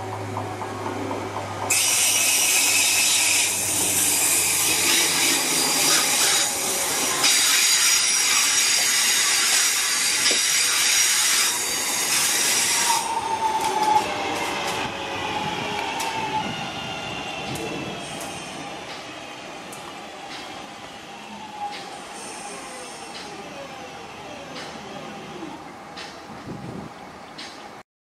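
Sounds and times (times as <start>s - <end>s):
train falling whine: 0.0s - 26.4s
train wheels hissing and squealing: 1.7s - 26.1s.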